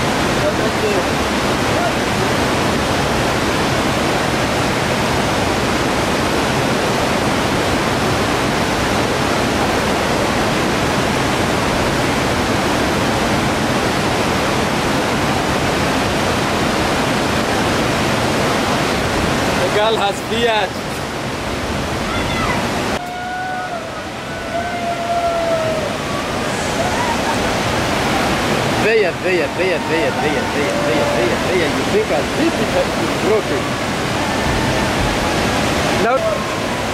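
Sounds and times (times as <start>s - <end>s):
river water rushing: 0.0s - 36.9s.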